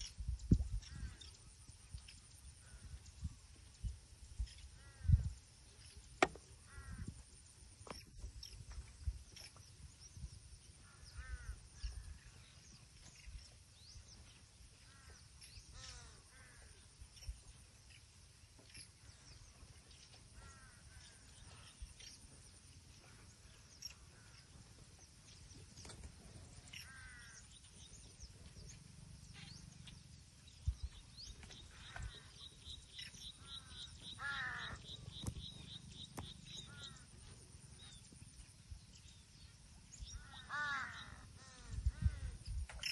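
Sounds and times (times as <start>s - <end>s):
birds calling: 0.0s - 42.9s.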